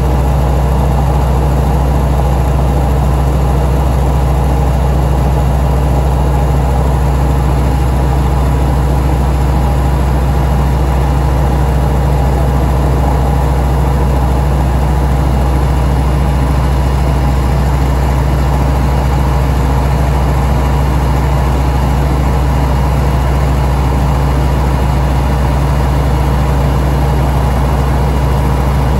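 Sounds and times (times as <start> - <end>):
propeller aircraft cabin drone: 0.0 - 28.9.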